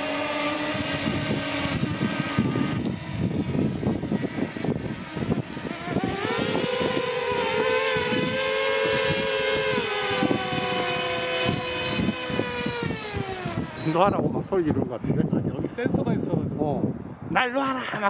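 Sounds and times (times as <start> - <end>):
drone propellers whining: 0.0 - 14.5
wind rumble on microphone: 0.0 - 17.5.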